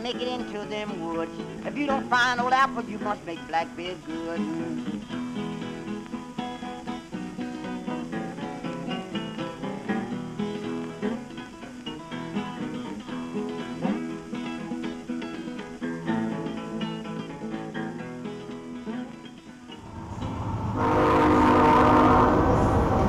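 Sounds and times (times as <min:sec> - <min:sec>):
blues guitar picked notes: 0:00.0 - 0:23.0.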